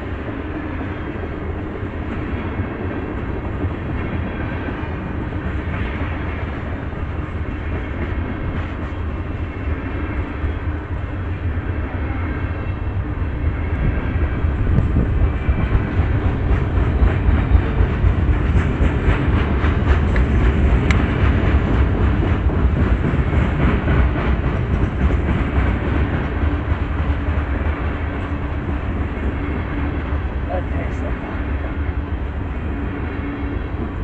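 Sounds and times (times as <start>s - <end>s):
steel wheels rumbling on rail: 0.0s - 34.0s.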